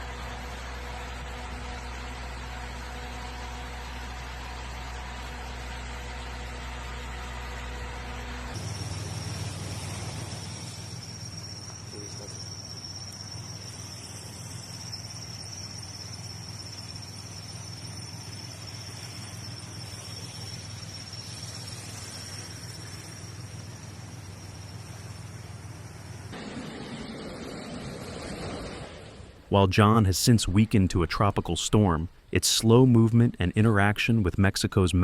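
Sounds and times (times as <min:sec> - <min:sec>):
high-pitched whine: 0:00.0 - 0:30.5.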